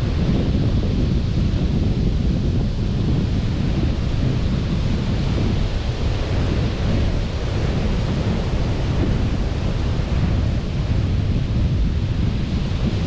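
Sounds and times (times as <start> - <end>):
deep rumble: 0.0 - 13.0
sea surf washing on beach: 0.0 - 13.0.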